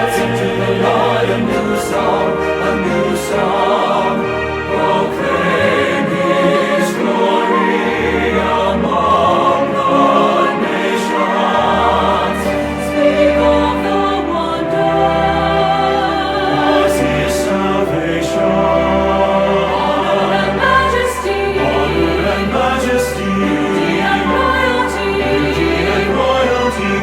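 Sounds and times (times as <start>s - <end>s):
choir singing with orchestra: 0.0s - 27.0s.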